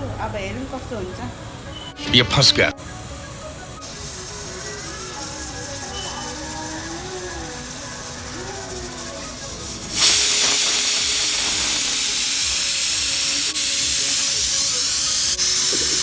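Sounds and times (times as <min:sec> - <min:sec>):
pressure cooker whistle hissing: 0:00.7 - 0:02.0, 0:02.8 - 0:16.0.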